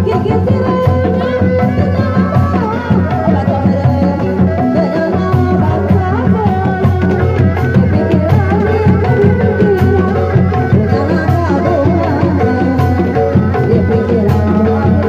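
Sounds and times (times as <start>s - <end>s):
drum rhythm: 0.0s - 15.0s
woman singing through microphone: 0.0s - 15.0s.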